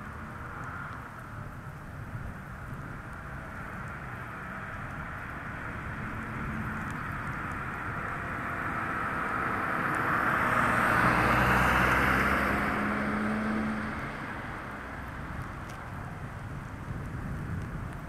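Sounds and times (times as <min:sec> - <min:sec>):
car passing on wet road: 0:00.0 - 0:18.0.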